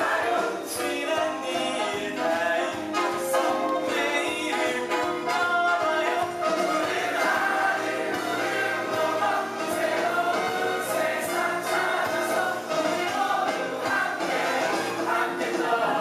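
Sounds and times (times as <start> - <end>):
cast singing in chorus: 0.0 - 16.0.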